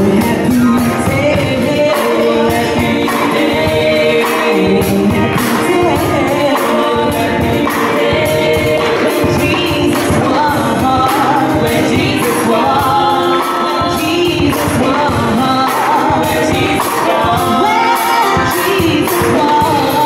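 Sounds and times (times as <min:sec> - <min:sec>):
keyboard: 0:00.0 - 0:20.0
percussion beat: 0:00.0 - 0:20.0
women singing gospel: 0:00.0 - 0:20.0.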